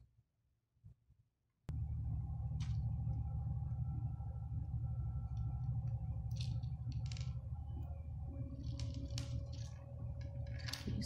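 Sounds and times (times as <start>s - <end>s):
steady low hum: 1.7s - 11.0s.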